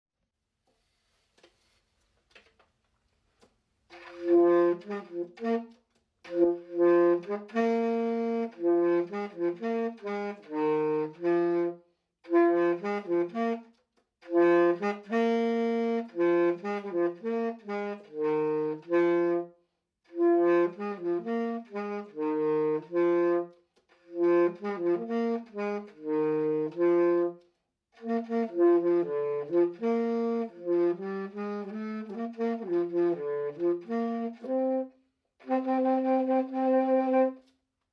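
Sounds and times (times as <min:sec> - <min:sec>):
solo tenor saxophone melody: 0:03.9 - 0:37.6.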